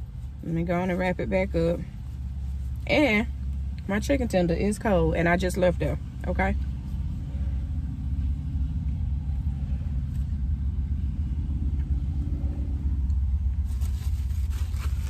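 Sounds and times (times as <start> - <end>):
low rumble in car cabin: 0.0 - 15.0.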